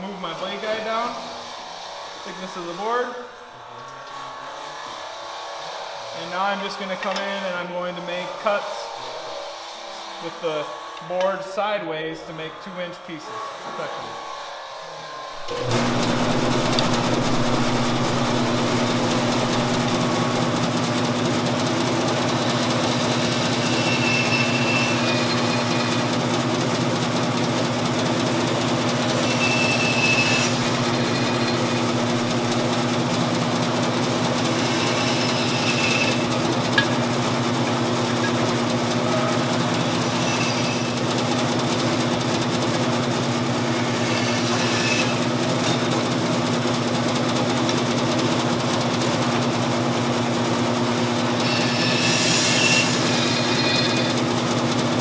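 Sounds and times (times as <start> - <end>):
band saw motor hum: 0.0 - 55.0
saw blade cutting wood whine: 0.0 - 55.0.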